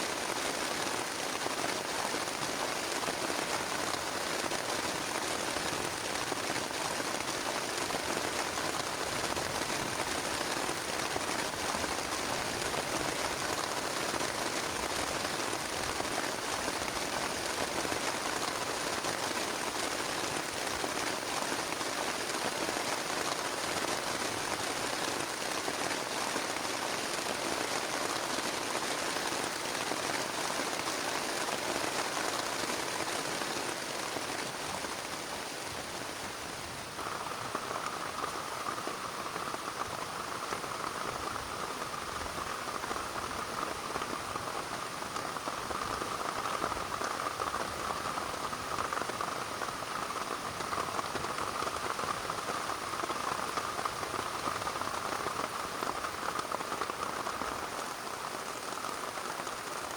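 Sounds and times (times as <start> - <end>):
heavy rain on a plastic tarp: 0.0 - 59.9.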